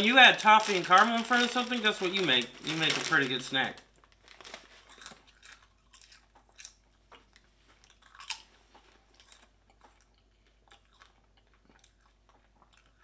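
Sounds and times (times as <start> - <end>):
person chewing popcorn: 0.0 - 13.0.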